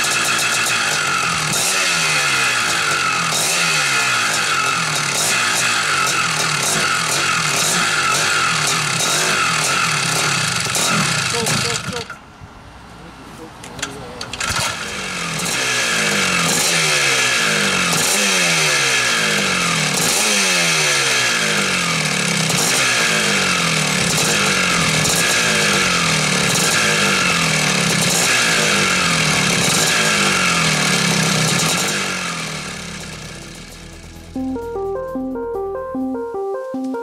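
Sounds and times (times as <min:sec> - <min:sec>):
motocross engine revving: 0:00.0 - 0:12.2, 0:14.3 - 0:34.4.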